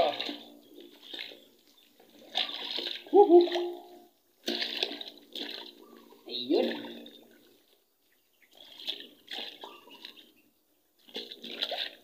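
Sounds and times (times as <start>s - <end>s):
water splashing and gurgling: 0.0s - 12.0s.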